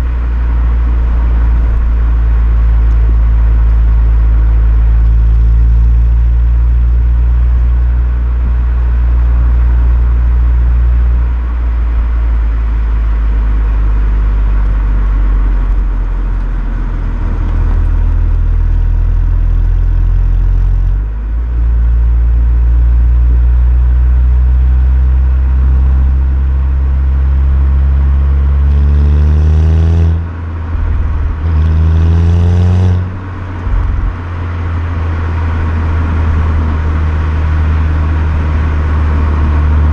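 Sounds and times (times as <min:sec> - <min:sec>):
car engine and exhaust driving: 0:00.0 - 0:39.9.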